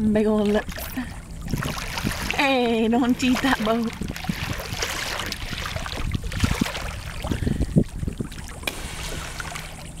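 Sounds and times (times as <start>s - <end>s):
water lapping: 0.0s - 10.0s
wind on microphone: 0.0s - 10.0s.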